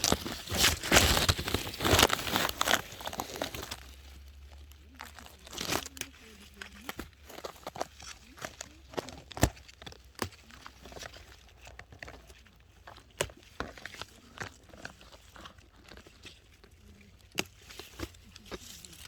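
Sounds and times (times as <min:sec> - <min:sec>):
leafy plants rustling: 0:00.0 - 0:19.0.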